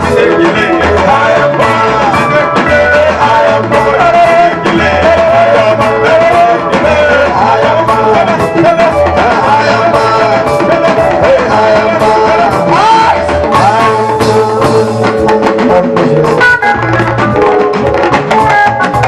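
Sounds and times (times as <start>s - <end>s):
bass and drum beat: 0.0s - 19.0s
person singing: 0.0s - 19.0s.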